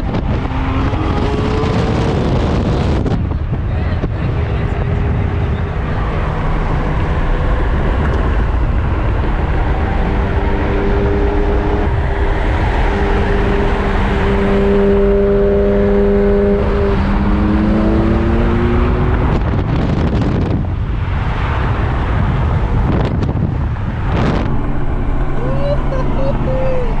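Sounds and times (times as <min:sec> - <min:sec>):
car engines accelerating: 0:00.0 - 0:27.0
cars rushing past: 0:00.0 - 0:27.0.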